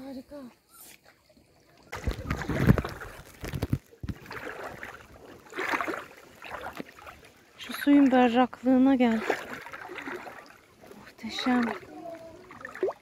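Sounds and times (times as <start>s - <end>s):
water splashing from wading: 1.0s - 13.0s.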